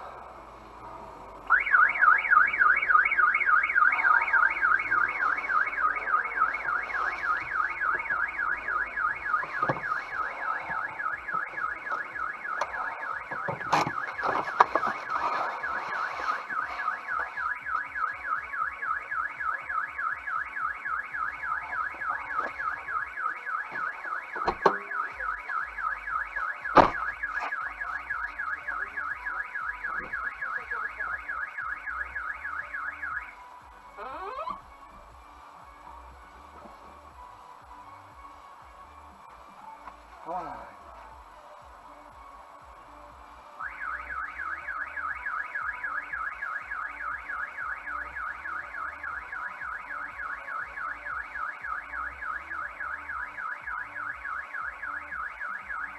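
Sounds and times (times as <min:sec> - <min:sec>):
car alarm siren warbling: 0:01.3 - 0:34.6, 0:43.6 - 0:55.9.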